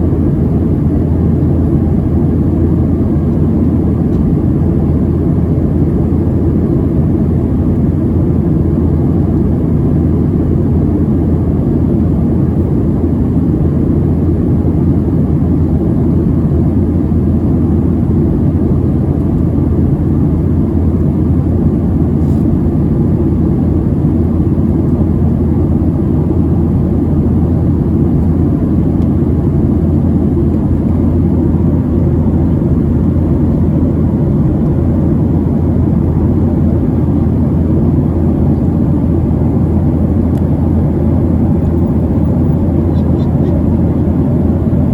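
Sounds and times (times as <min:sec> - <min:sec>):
jet engines cabin drone: 0:00.0 - 0:44.9.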